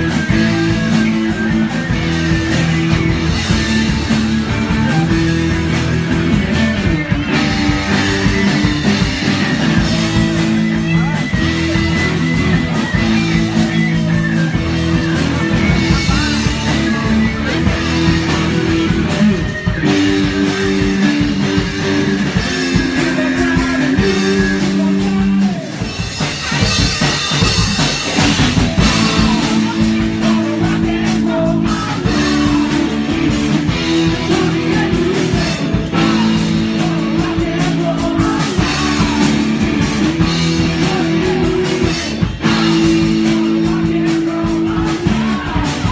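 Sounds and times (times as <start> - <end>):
drum kit with cymbals: 0.0 - 45.9
electric guitar chords: 0.0 - 45.9.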